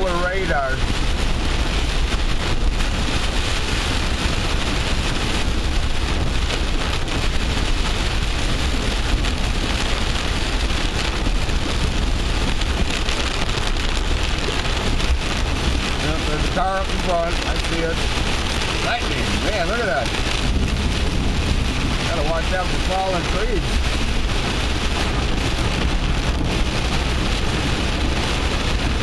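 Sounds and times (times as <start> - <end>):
car rumbling on wet road: 0.0 - 29.0
heavy rain on a car: 0.0 - 29.0.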